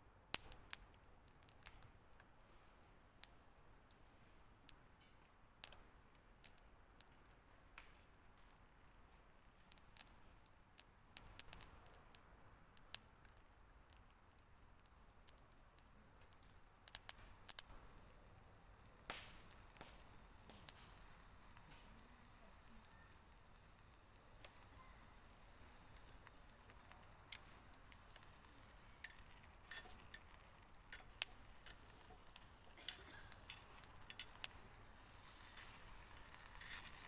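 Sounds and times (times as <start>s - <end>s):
light clicks and taps: 4.7s - 37.0s.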